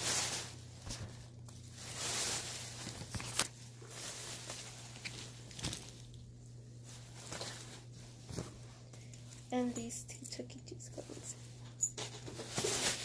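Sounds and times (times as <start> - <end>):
items rustling in a bag: 0.0 - 9.9, 11.0 - 13.0.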